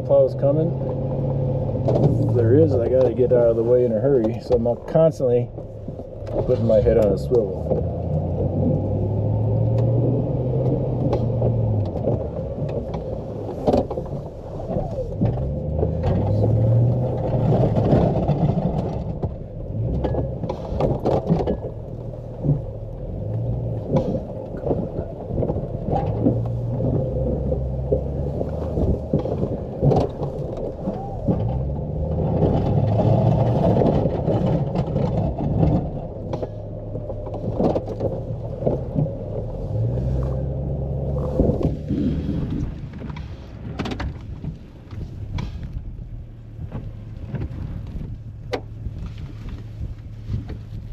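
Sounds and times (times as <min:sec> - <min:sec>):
truck engine revving: 0:00.0 - 0:48.9
knocks and clunks: 0:00.0 - 0:50.9.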